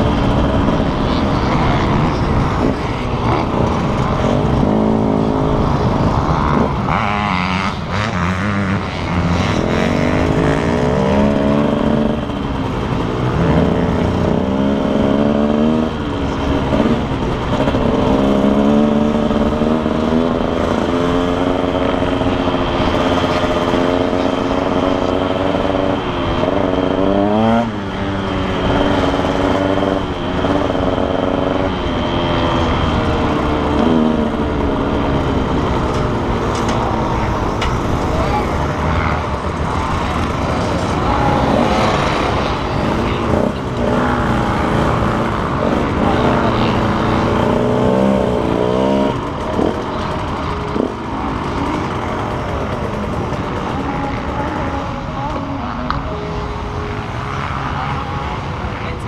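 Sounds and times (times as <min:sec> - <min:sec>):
motocross bike engines revving: 0:00.0 - 0:59.0.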